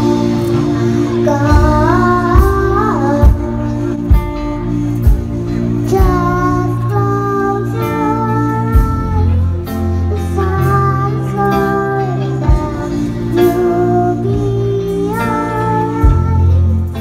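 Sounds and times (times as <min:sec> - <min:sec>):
girl singing into a microphone: 0:00.0 - 0:17.0
live band playing: 0:00.0 - 0:17.0.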